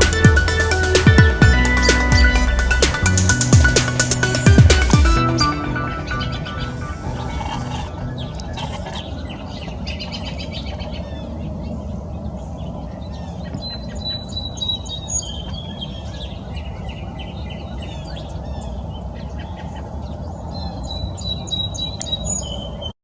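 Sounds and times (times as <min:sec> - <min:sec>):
birds chirping and calling: 0:00.0 - 0:22.8.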